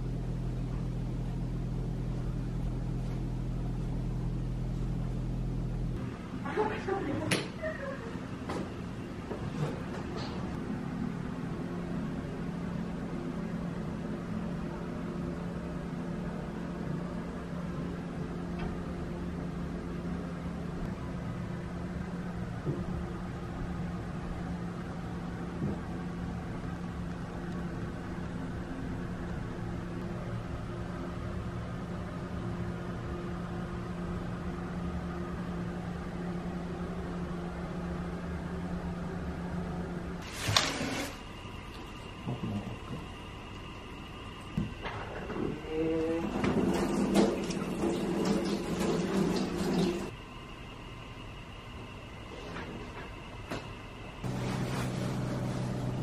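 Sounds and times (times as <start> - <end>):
low machine hum with hiss: 0.0 - 56.0.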